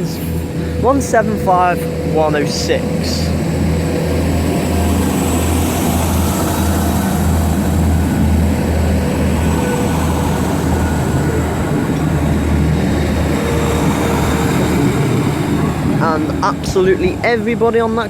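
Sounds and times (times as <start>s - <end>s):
diesel train engine droning: 0.0s - 18.0s
faint high whine: 0.0s - 18.0s.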